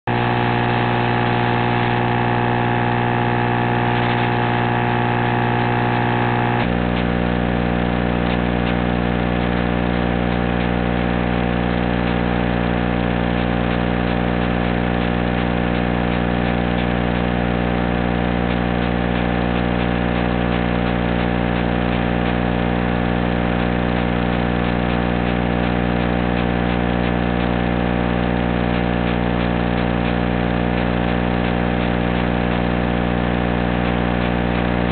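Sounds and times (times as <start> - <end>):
electronic video link buzz: 0.0 - 34.9.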